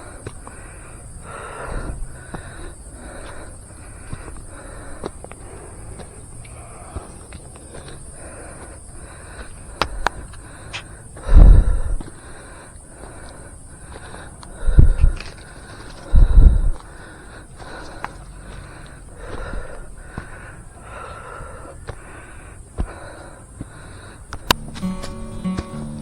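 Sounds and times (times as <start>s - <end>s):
footsteps on forest trail: 0.0s - 26.0s
high insect drone: 0.0s - 26.0s.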